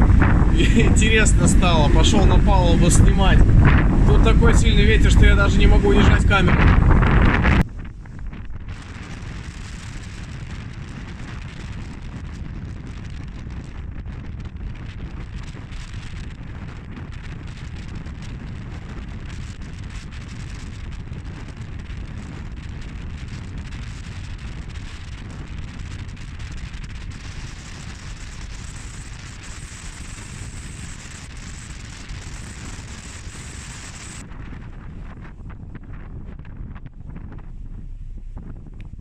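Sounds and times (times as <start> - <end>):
strong wind on microphone: 0.0 - 39.0.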